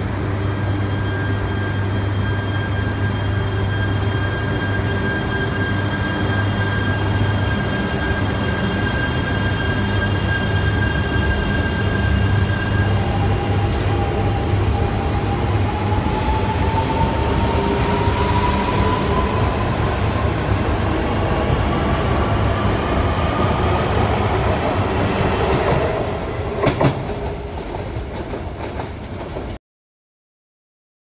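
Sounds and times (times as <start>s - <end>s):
train wheels rumbling on rail: 0.0s - 29.6s.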